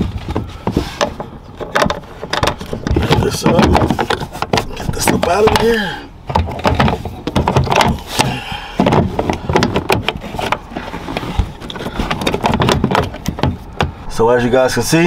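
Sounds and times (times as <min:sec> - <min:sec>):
plastic parts clicking and scraping: 0:00.0 - 0:14.0.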